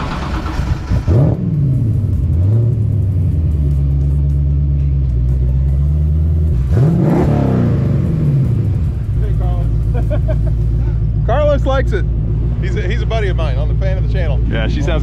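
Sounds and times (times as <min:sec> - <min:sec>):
car engine idling: 0:00.0 - 0:15.0
engine revving: 0:00.0 - 0:15.0.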